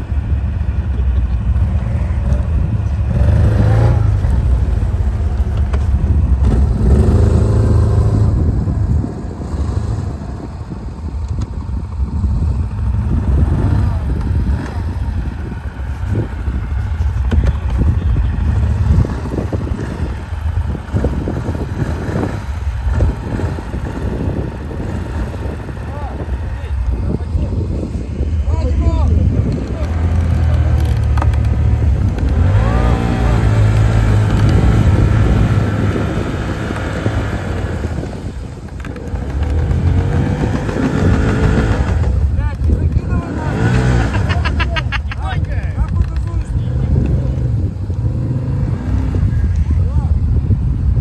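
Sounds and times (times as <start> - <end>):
quad bike engine revving: 0.0 - 51.0.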